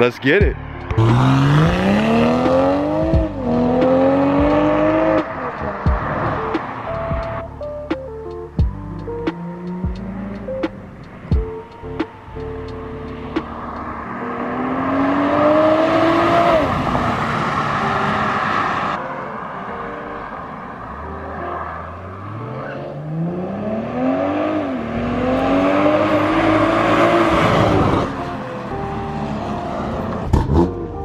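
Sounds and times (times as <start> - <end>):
car engine revving: 0.4 - 31.0.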